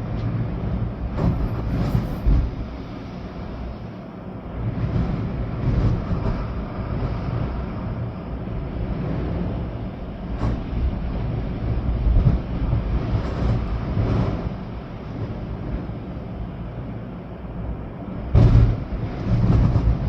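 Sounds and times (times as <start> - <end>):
rain: 0.0 - 20.0
storm wind gusting: 0.0 - 20.0.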